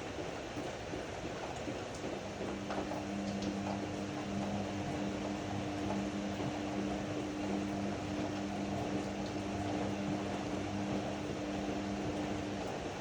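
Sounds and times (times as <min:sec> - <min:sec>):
washer-dryer motor hum: 0:00.0 - 0:13.0.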